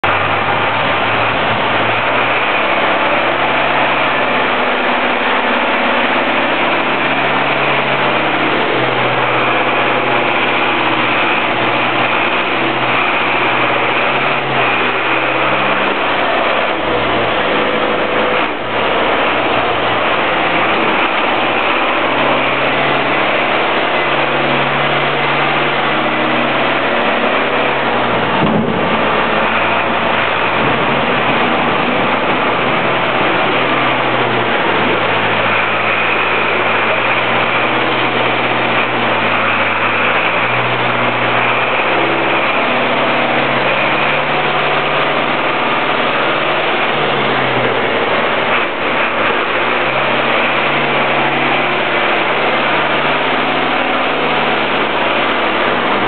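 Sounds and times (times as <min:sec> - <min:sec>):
loud steady hiss: 0:00.0 - 0:56.0
tractor diesel engine running: 0:00.0 - 0:56.0.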